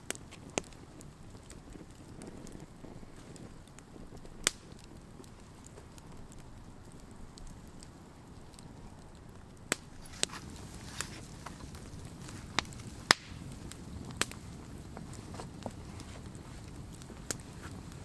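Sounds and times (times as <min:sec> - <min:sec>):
campfire low rumble: 0:00.0 - 0:18.0
fire crackling pops: 0:00.0 - 0:18.0.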